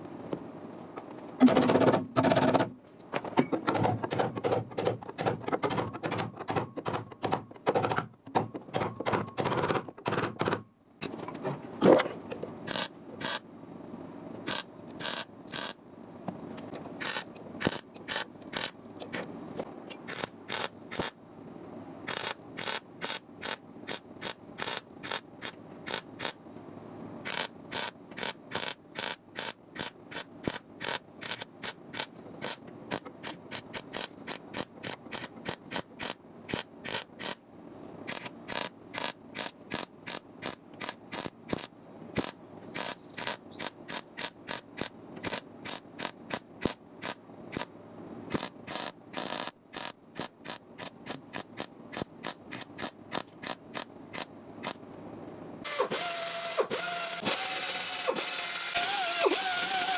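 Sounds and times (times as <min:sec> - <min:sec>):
welder stitch-weld bursts: 0:01.4 - 0:02.8, 0:03.5 - 0:10.6, 0:12.6 - 0:13.4, 0:14.4 - 0:15.8, 0:17.0 - 0:19.3, 0:20.0 - 0:21.2, 0:22.0 - 0:26.4, 0:27.2 - 0:37.4, 0:38.0 - 0:47.7, 0:48.3 - 0:54.8, 0:55.6 - 0:59.9.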